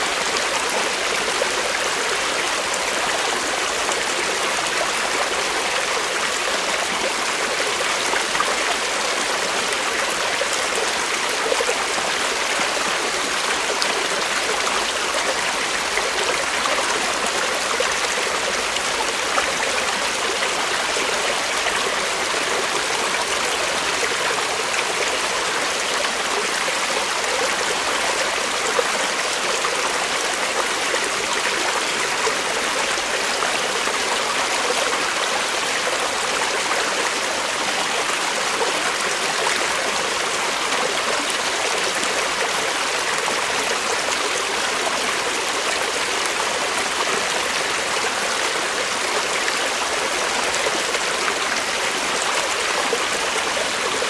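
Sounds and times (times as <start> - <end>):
creek water flowing over rocks: 0.0 - 54.0.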